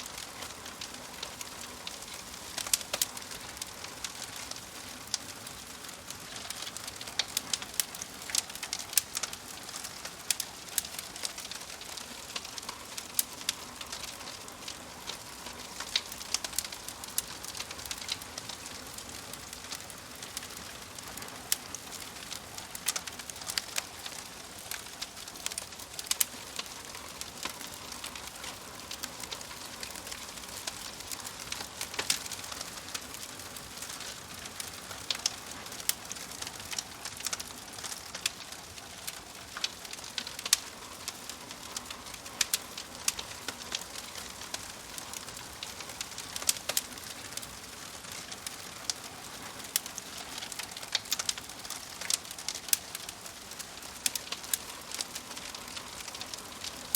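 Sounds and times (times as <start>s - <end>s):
fire pops and snaps: 0.0s - 56.9s
wood fire crackling: 0.0s - 56.9s.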